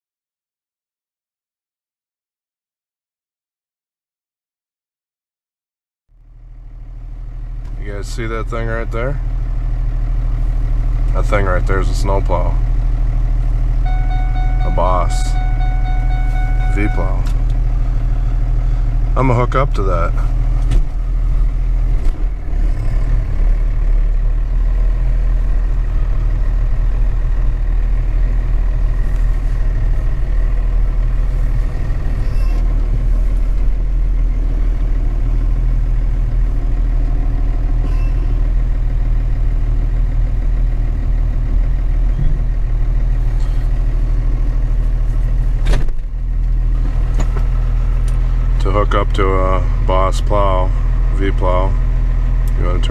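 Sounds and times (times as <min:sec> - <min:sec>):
truck engine rumbling: 0:06.2 - 0:52.9.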